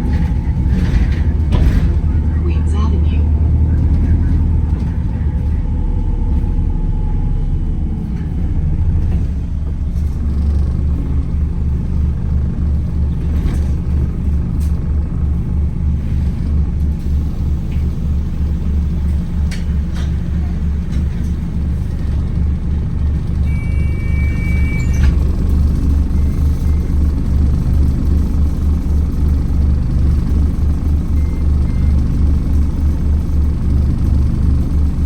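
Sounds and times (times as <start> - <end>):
bus drivetrain drone: 0.0 - 35.0.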